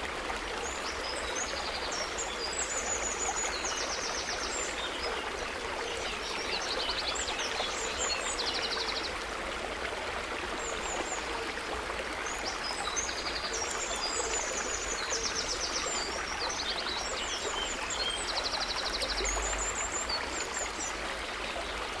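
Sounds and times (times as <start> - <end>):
forest stream running: 0.0 - 22.0.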